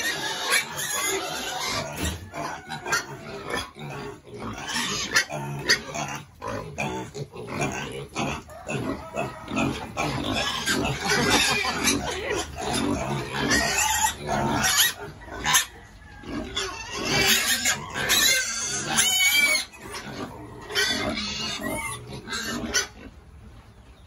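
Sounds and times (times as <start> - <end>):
pigs squealing loudly: 0.0 - 23.1.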